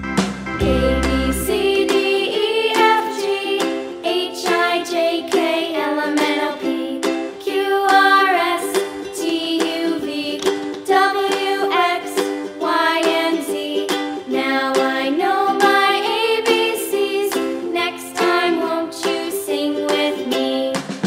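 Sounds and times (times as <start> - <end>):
plucked-string accompaniment: 0.0 - 21.0.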